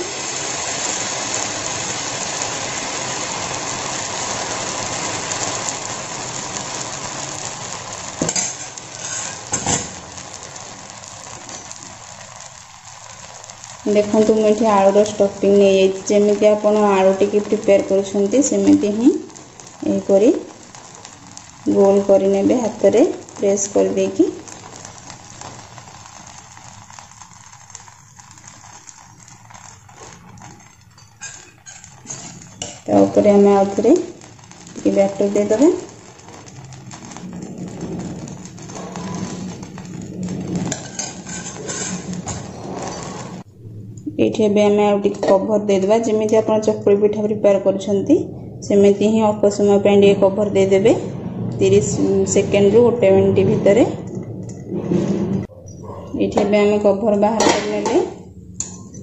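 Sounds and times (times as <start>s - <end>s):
batter sizzling on griddle: 0.0s - 43.5s, 44.5s - 55.6s, 56.4s - 59.0s
faint crackles: 0.0s - 47.2s, 47.8s - 59.0s.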